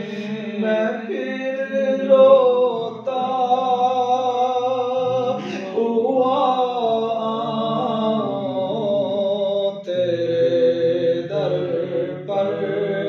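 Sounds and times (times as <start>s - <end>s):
person singing devotional song: 0.0s - 13.0s.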